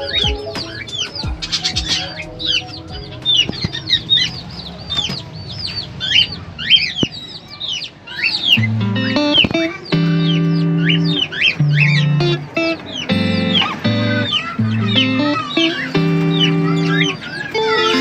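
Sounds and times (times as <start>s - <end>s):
faint background music: 0.0s - 18.0s
flock of birds chirping: 0.0s - 18.0s.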